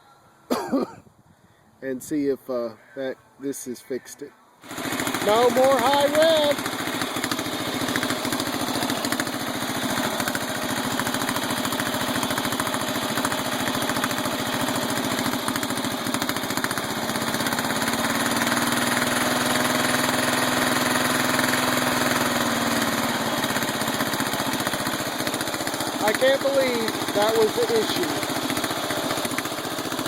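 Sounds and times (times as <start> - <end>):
lawn mower engine running: 4.6 - 30.0.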